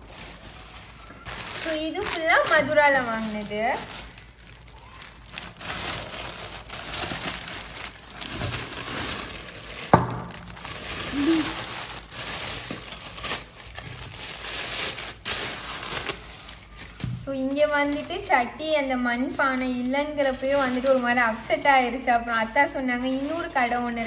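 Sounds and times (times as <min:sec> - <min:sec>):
plastic bag and paper crinkling: 0:00.0 - 0:24.0.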